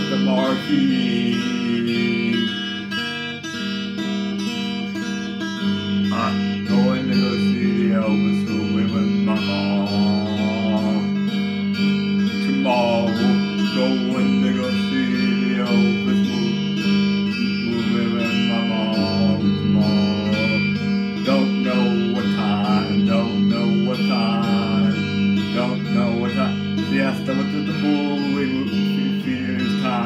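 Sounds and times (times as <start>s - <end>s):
man singing: 0.0s - 3.6s, 6.0s - 30.0s
electric guitar: 0.0s - 30.0s.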